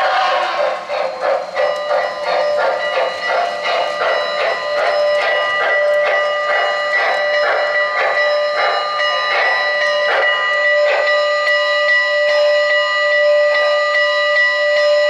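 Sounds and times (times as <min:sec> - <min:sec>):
multi-note steam whistle: 0:00.0 - 0:15.0
steam locomotive chuffing: 0:00.0 - 0:15.0.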